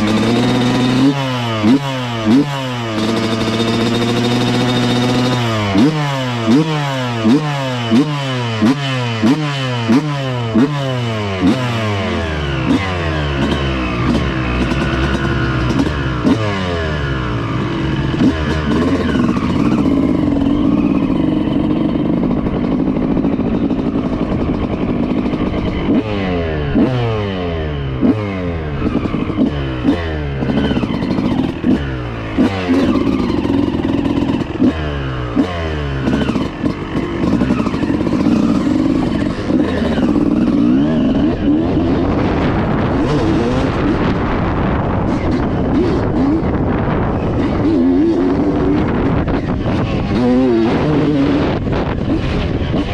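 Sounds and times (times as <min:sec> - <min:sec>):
engine knocks and clatter: 0:00.0 - 0:52.9
two-stroke motorcycle engine revving: 0:00.0 - 0:52.9.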